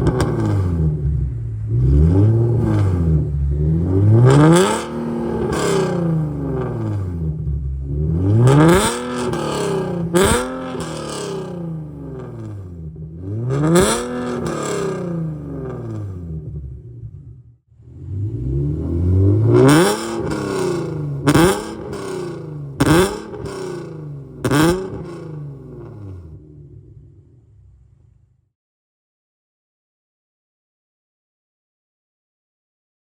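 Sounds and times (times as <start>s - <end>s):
car engine revving: 0.0s - 27.6s.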